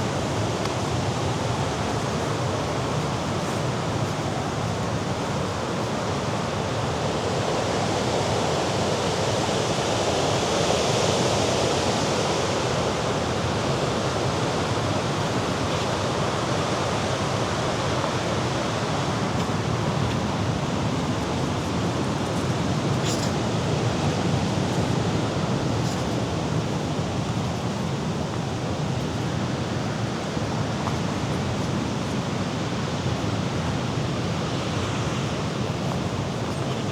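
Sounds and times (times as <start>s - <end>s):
wind: 0.0s - 36.9s.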